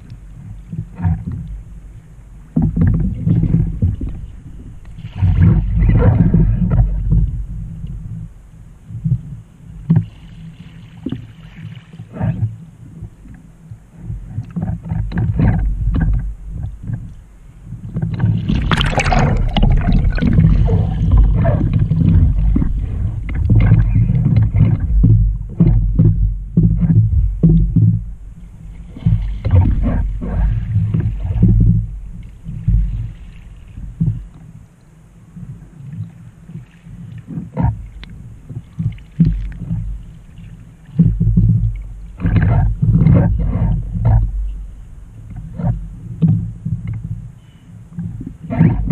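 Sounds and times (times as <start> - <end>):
wind buffeting microphone: 0.0 - 11.1, 12.1 - 34.5, 36.5 - 48.9
paddle splashing water: 0.0 - 48.9
water slapping hull: 0.0 - 48.9.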